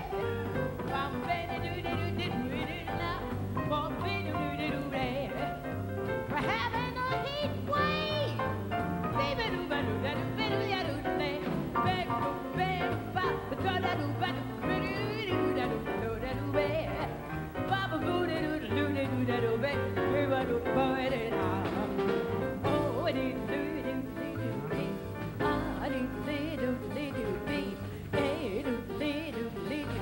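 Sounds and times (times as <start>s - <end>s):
piano: 0.0s - 30.0s
plucked double bass: 0.0s - 30.0s
woman singing jazz: 0.0s - 30.0s.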